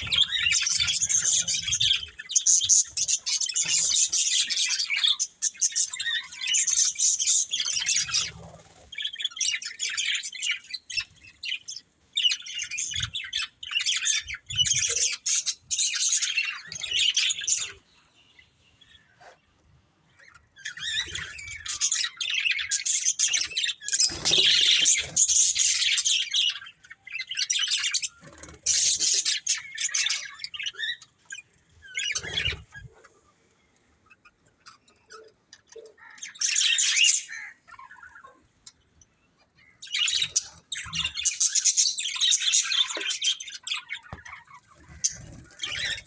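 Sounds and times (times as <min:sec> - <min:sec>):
budgerigars chirping and chattering: 0:00.0 - 0:19.3, 0:20.1 - 0:46.0.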